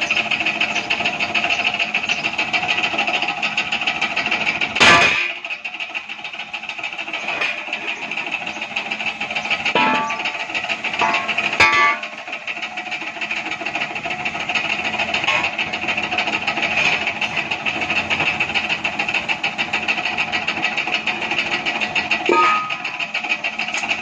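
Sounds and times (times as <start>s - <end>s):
machine rattling: 0.0s - 24.0s.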